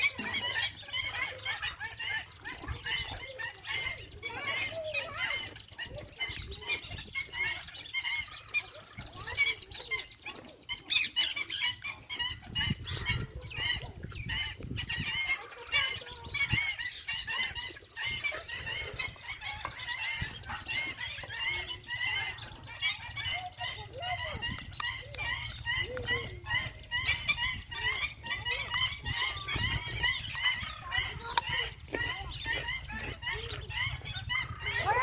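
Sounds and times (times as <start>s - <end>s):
birds chirping and squawking: 0.0s - 35.0s.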